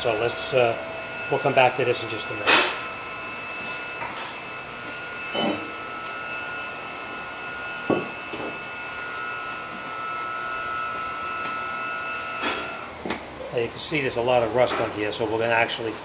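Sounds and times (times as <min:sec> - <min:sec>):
faint high whine: 0:00.0 - 0:12.9
workshop machine hum: 0:00.0 - 0:16.0.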